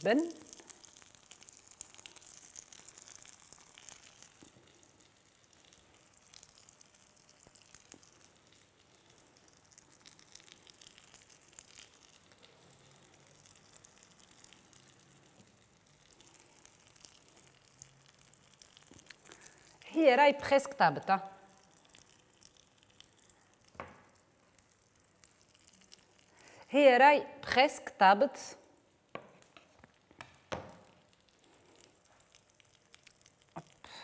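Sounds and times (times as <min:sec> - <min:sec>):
small crackles: 0:00.0 - 0:19.9, 0:21.4 - 0:26.7, 0:28.6 - 0:34.0
omelette sizzling in a pan: 0:00.0 - 0:27.0, 0:27.6 - 0:34.0.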